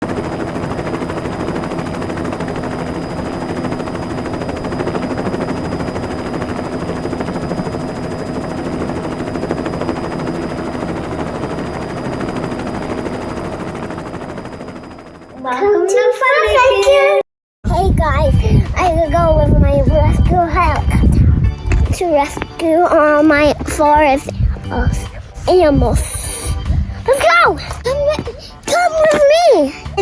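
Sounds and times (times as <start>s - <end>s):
helicopter rotor chopping: 0.0s - 17.0s, 17.7s - 30.0s.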